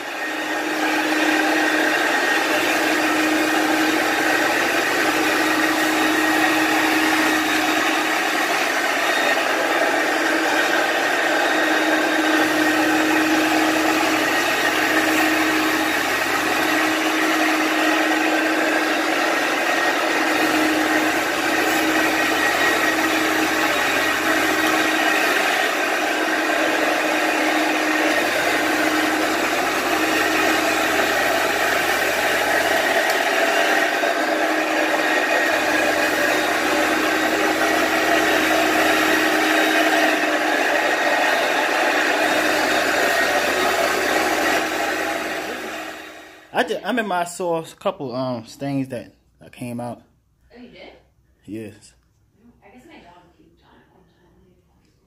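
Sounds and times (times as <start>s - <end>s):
extraction machine vacuum rushing: 0.0s - 46.8s.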